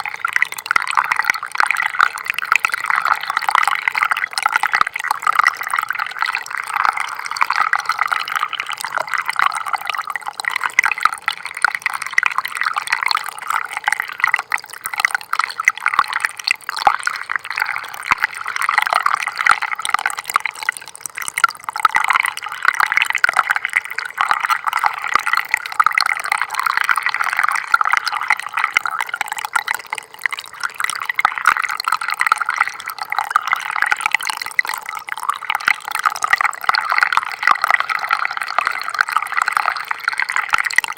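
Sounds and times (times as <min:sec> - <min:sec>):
stream trickling and splashing: 0:00.0 - 0:40.9.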